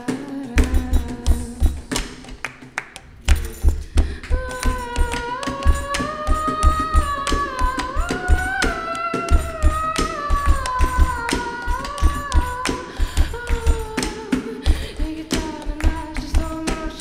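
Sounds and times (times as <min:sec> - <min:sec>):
woman singing wordless melody: 0:00.0 - 0:02.0, 0:03.7 - 0:17.0
beat of thumps and clicks: 0:00.5 - 0:17.0.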